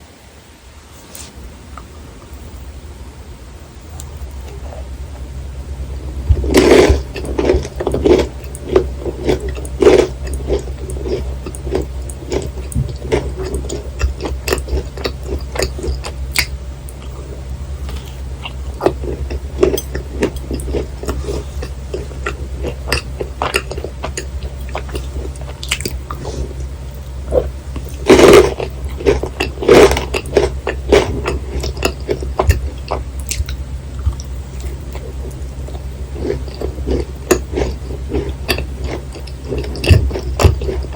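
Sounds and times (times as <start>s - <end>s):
constant low hum: 0.0s - 40.9s
crisp biting and sticky chewing: 6.1s - 40.9s.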